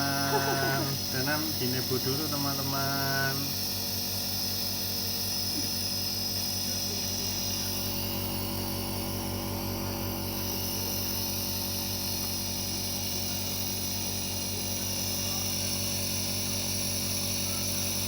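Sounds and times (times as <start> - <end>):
nebulizer compressor droning hum: 0.0 - 18.0.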